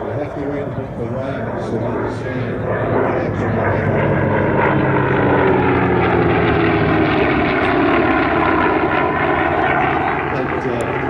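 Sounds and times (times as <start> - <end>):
propeller plane engine: 0.0 - 11.0.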